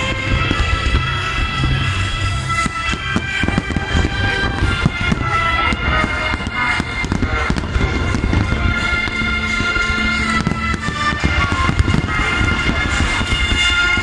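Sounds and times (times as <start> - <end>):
fireworks bangs: 0.0 - 14.0
music playing: 0.0 - 14.0.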